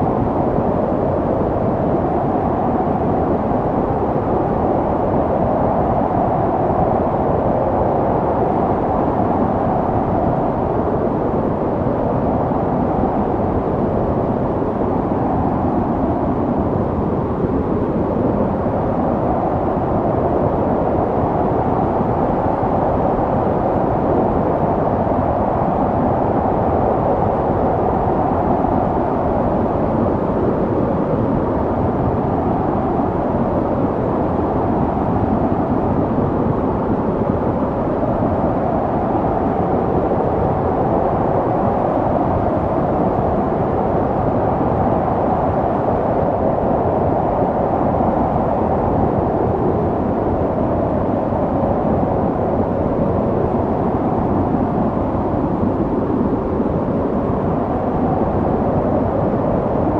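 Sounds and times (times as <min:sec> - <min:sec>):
snowstorm wind blowing: 0:00.0 - 0:59.9.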